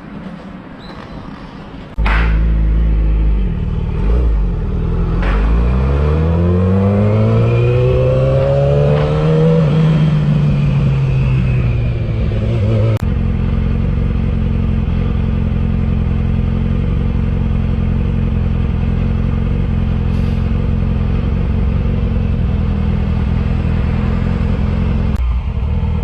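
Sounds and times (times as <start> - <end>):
motorcycle engine running: 2.0 - 26.0.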